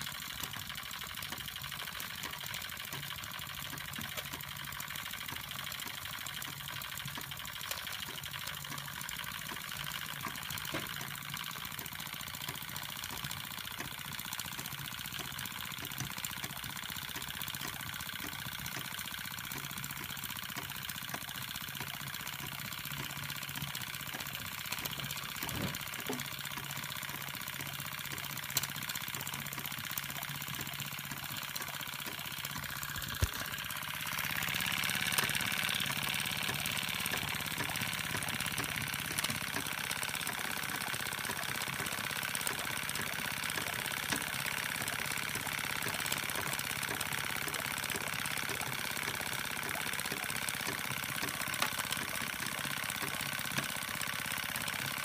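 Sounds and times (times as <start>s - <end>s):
toy steam engine running: 0.0s - 55.0s.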